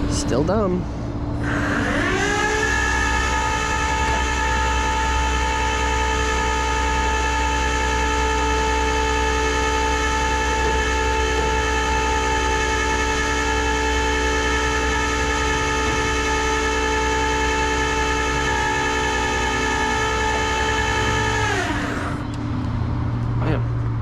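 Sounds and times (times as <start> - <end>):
high-pitched mechanical whine: 0.0 - 24.0.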